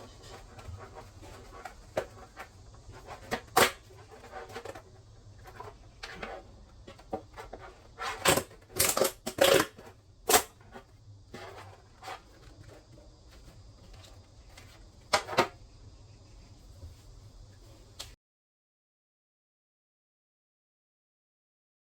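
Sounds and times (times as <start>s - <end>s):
faint steady hum: 0.0s - 18.2s.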